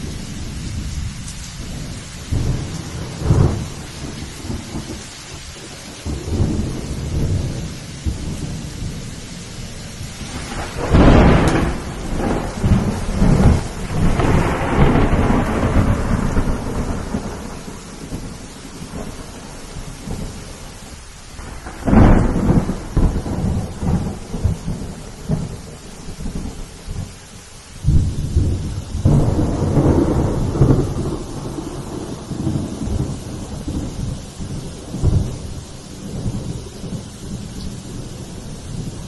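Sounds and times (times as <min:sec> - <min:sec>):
rolling thunder: 0:00.0 - 0:39.0
steady rain: 0:00.0 - 0:39.0.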